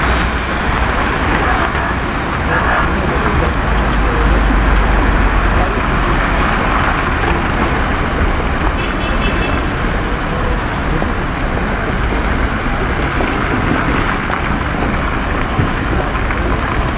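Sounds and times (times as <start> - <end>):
road traffic driving past: 0.0 - 16.9.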